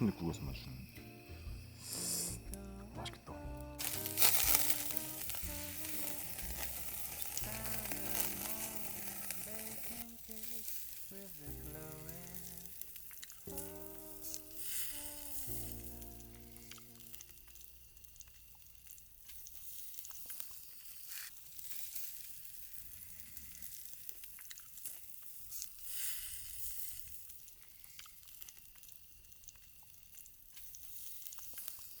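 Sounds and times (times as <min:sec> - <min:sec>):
food sizzling: 0:00.0 - 0:32.0
small crackles: 0:03.6 - 0:32.0.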